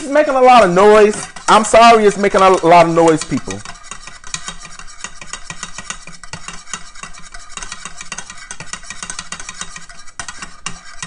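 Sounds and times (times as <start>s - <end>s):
whisk clattering in metal saucepan: 0.0s - 11.0s.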